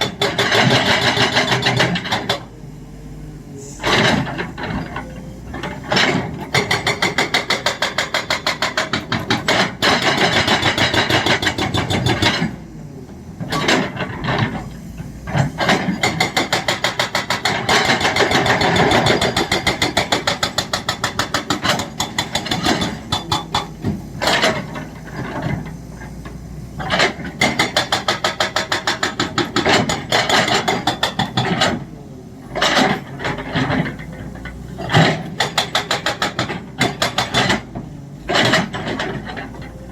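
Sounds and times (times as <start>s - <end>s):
hydraulic breaker hammering rock: 0.0s - 2.5s, 3.8s - 12.6s, 13.4s - 39.9s
excavator engine hum: 0.0s - 39.9s.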